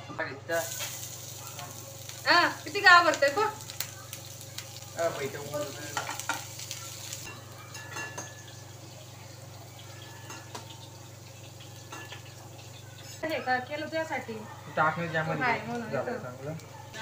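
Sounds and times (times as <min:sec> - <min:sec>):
oil sizzling: 0:00.5 - 0:17.0.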